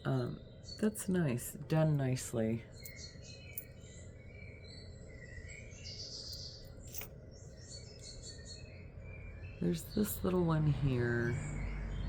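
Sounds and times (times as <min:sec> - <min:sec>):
faint bird chirps: 0:00.0 - 0:12.0
low steady hum: 0:00.0 - 0:12.0.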